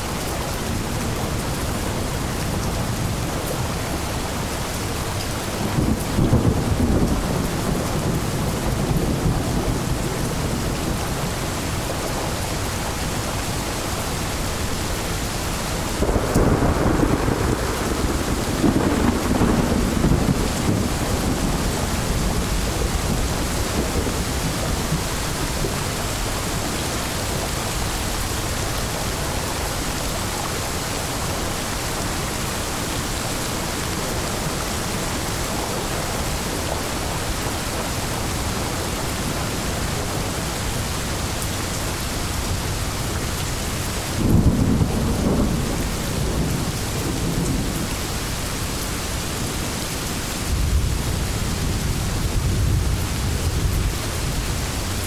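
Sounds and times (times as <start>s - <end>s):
heavy rain: 0.0s - 55.0s
thunder rumbling: 5.4s - 14.8s, 15.4s - 55.0s.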